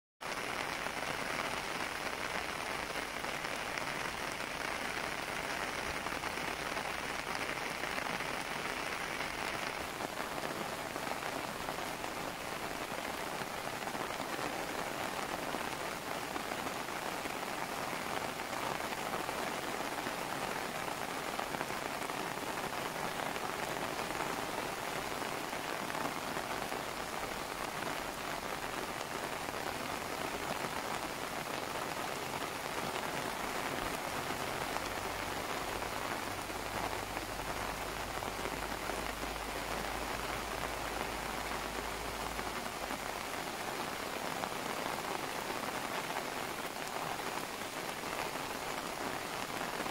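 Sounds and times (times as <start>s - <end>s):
rain falling on lake and forest: 0.2s - 49.9s.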